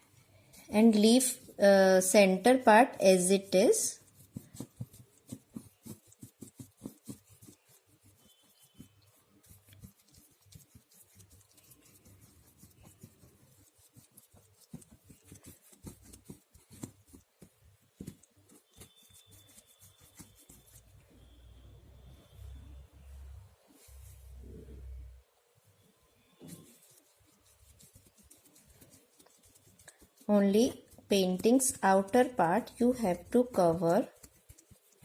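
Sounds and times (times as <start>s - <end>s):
painting knife scraping paint: 0.5s - 1.8s, 3.2s - 21.4s, 26.4s - 35.0s.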